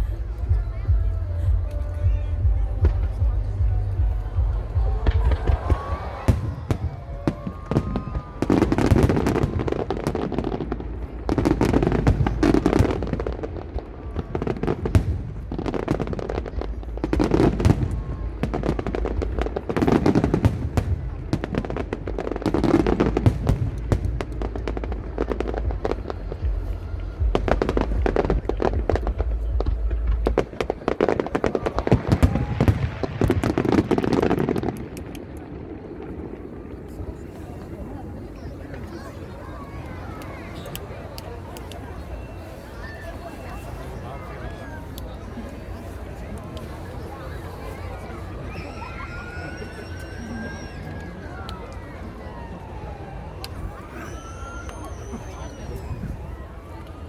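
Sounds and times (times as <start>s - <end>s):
fireworks booming bursts: 0.0s - 48.1s
fireworks cracks and crackles: 0.0s - 57.0s.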